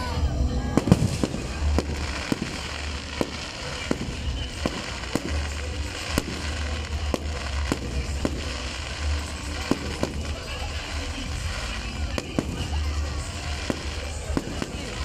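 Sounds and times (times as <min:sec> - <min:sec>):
hiss and crackle of fireworks: 0:00.0 - 0:15.0
fireworks shells bursting: 0:00.8 - 0:15.0.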